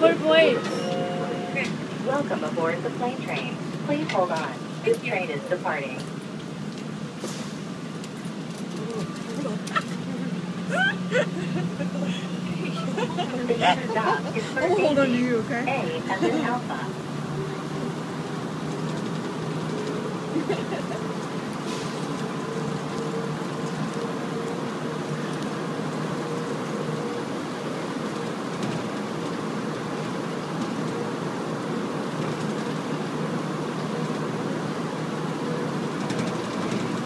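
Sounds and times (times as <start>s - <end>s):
train running through tunnel: 0.0s - 37.0s.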